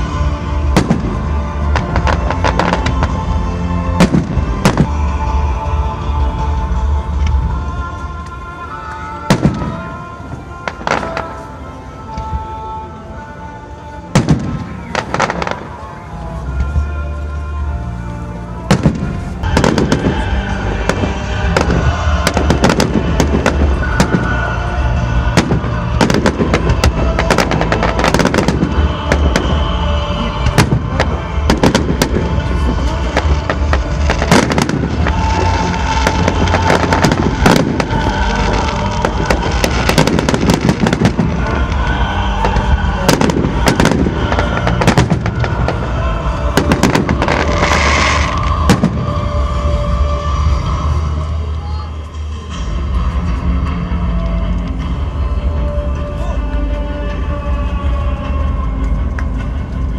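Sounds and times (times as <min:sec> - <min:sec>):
fireworks bangs and crackling: 0:00.0 - 0:12.6, 0:14.1 - 0:17.0, 0:18.5 - 0:56.1
music playing: 0:00.0 - 0:59.9.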